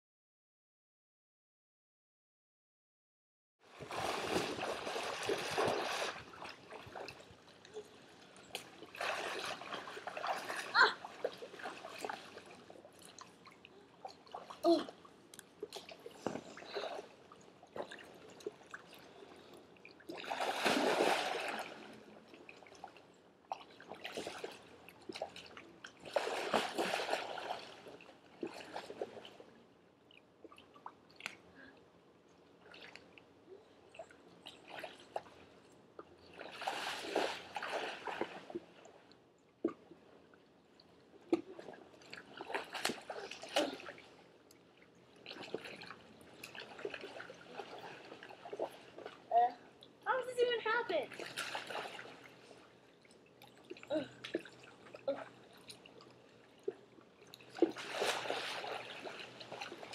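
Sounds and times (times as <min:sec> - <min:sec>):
water splashing and sloshing: 0:03.6 - 0:59.9.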